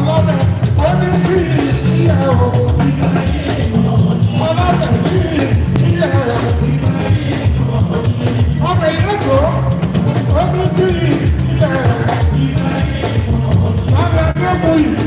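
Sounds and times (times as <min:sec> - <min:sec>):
percussion and bass groove: 0:00.0 - 0:15.0
person singing: 0:00.0 - 0:15.0.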